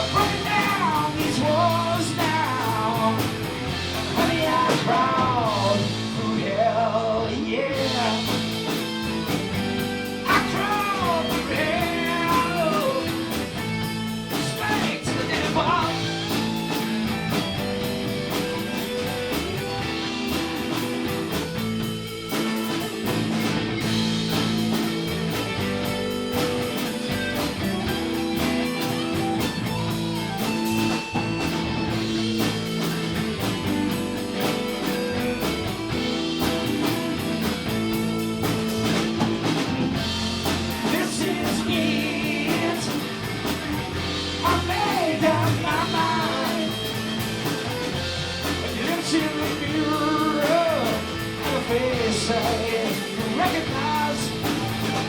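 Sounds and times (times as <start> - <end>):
blues rock band playing: 0.0 - 55.0
electric guitar: 0.0 - 55.0.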